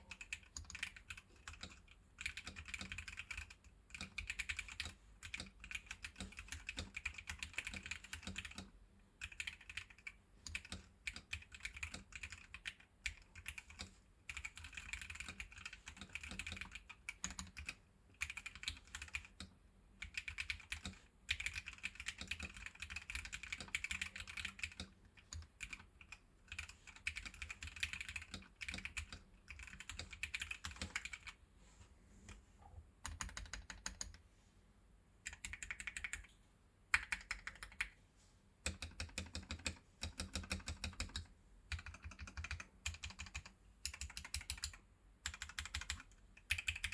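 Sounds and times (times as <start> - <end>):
mechanical keyboard typing: 0.0 - 31.4, 33.0 - 34.2, 35.2 - 36.3, 36.9 - 38.0, 38.6 - 46.9.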